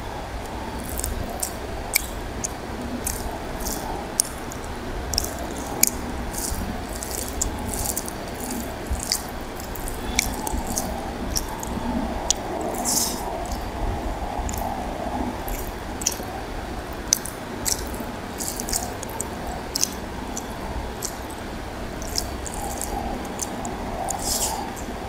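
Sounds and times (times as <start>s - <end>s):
fingers squishing rice and curry: 0.8s - 25.0s.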